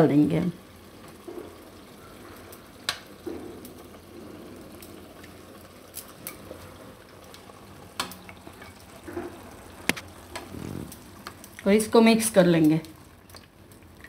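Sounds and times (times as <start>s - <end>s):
sizzling and bubbling oil: 0.0s - 14.0s.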